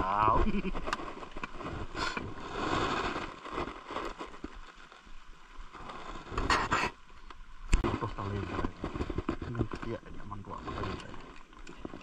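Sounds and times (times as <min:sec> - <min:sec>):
hands rustling and scraping gear: 0:00.0 - 0:07.0, 0:07.8 - 0:12.0.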